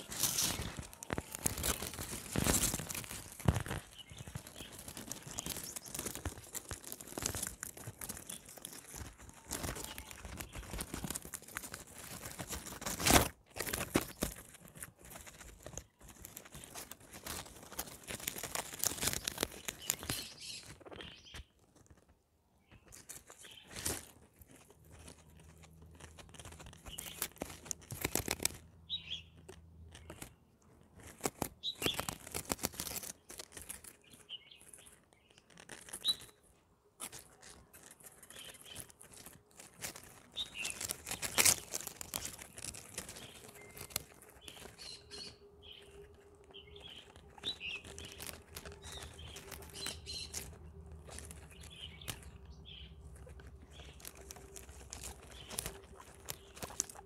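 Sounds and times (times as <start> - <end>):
guinea pigs crunching food: 0.0 - 57.0.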